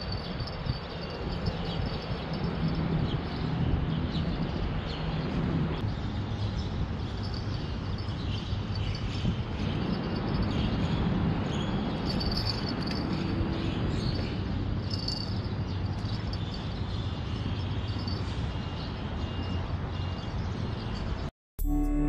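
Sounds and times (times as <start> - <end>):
low traffic rumble: 0.0 - 21.3.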